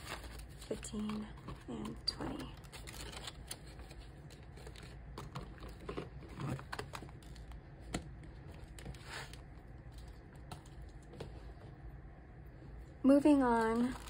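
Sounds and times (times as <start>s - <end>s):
plastic rustling: 0.0s - 11.5s, 13.3s - 14.0s.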